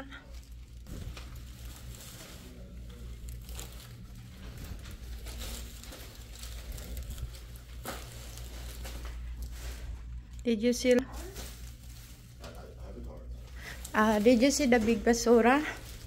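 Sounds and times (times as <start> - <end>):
plastic rustling and crinkling: 0.0 - 16.0
steady low hum: 0.0 - 16.0.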